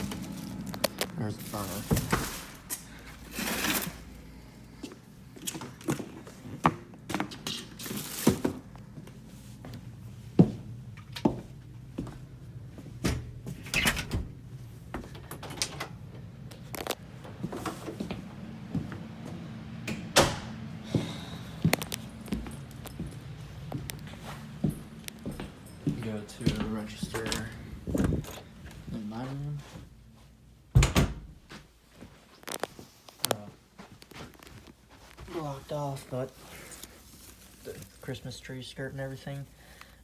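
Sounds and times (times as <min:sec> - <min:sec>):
furnace humming: 0:00.0 - 0:40.0.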